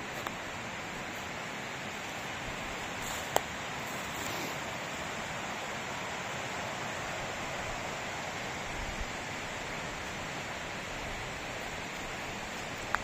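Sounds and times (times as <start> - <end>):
stream rushing: 0.0 - 13.0.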